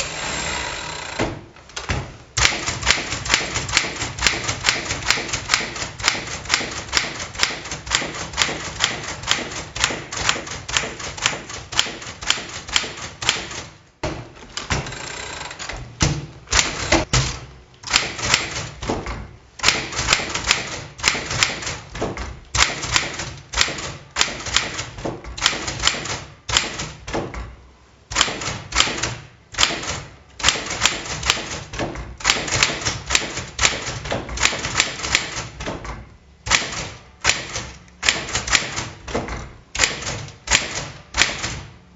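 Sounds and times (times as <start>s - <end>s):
manual typewriter typing: 0.0s - 27.3s, 28.1s - 41.9s.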